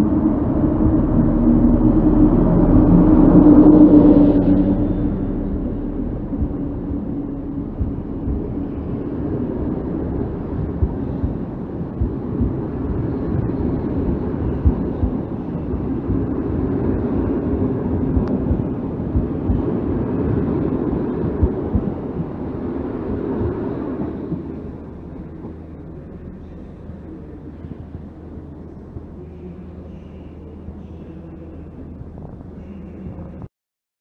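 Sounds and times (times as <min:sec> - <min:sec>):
train wheels rumbling on track: 0:00.0 - 0:33.2.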